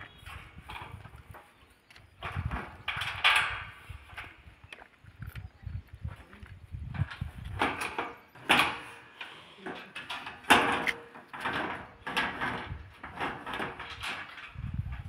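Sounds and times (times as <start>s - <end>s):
metal knocking and scraping: 0.0s - 4.5s, 6.8s - 15.0s.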